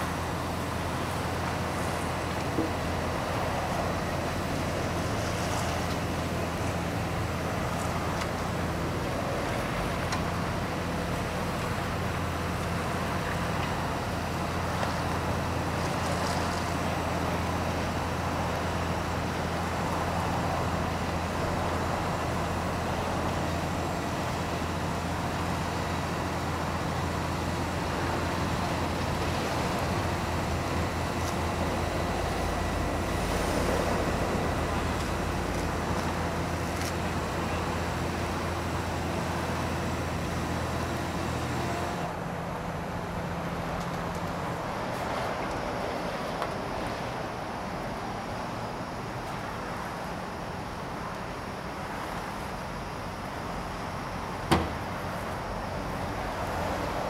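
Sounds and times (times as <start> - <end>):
heavy diesel machinery droning: 0.0 - 57.0.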